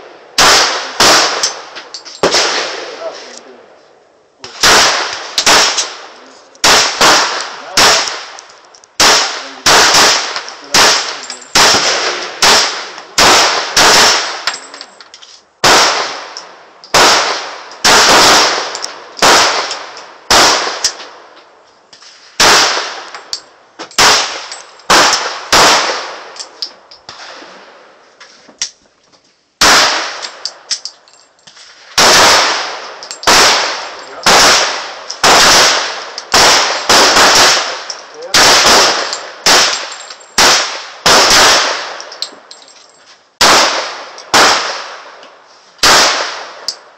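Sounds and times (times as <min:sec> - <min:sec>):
pistol shots: 0:00.3 - 0:03.1, 0:04.4 - 0:14.7, 0:15.6 - 0:21.2, 0:22.4 - 0:27.5, 0:29.6 - 0:30.9, 0:31.6 - 0:42.3, 0:43.4 - 0:45.2, 0:45.8 - 0:46.9.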